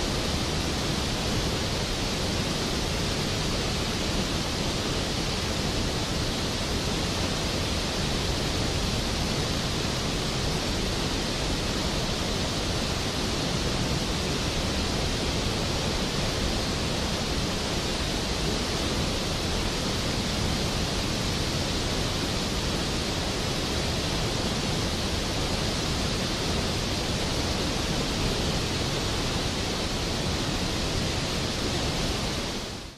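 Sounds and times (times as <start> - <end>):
rushing white water: 0.0 - 32.9.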